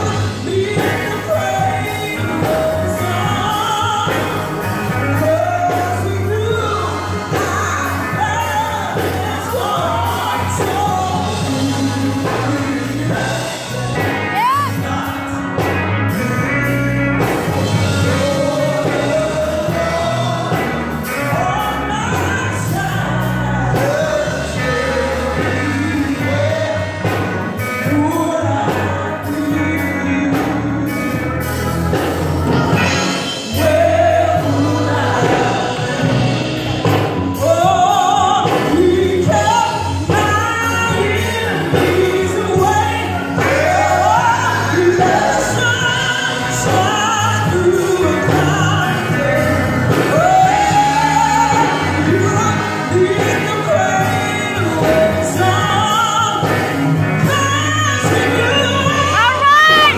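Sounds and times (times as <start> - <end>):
woman singing a hymn: 0.0 - 15.3, 16.1 - 31.5, 32.8 - 59.9
instrumental accompaniment: 0.0 - 59.9.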